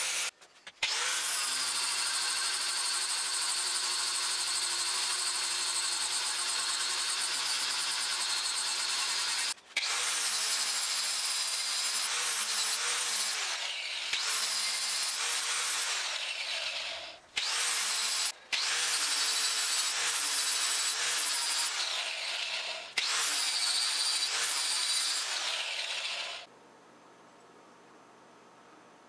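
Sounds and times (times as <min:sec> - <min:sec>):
electric grinder on steel: 0:00.0 - 0:26.5.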